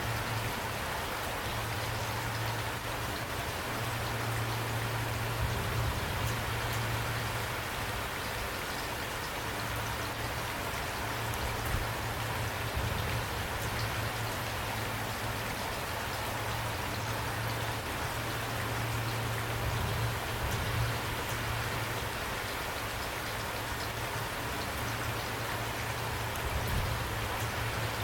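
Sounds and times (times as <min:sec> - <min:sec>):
steady rain falling: 0:00.0 - 0:28.0
rain drop ticks: 0:01.3 - 0:28.0.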